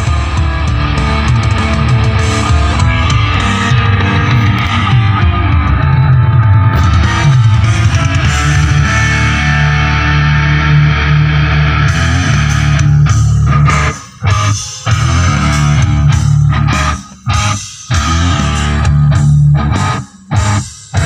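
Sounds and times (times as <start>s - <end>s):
rock music through car speakers: 0.0s - 21.0s.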